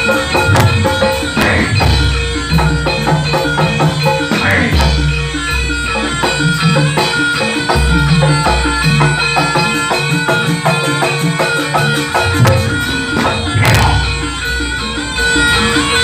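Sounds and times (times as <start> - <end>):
gamelan percussion music: 0.0 - 16.0
ringing metallophone tones: 0.0 - 16.0.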